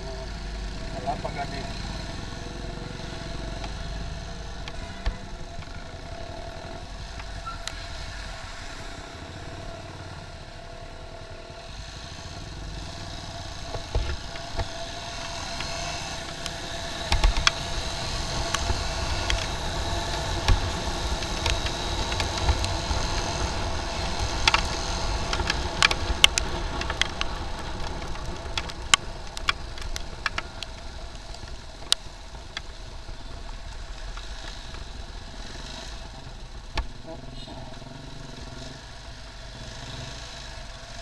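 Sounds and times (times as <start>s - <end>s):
motorcycle engine rumbling: 0.0s - 41.0s.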